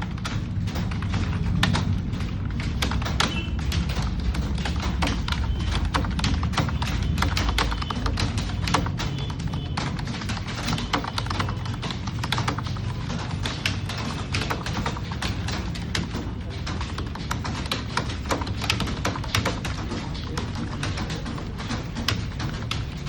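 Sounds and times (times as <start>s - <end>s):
keyboard typing clicks: 0.0s - 23.0s.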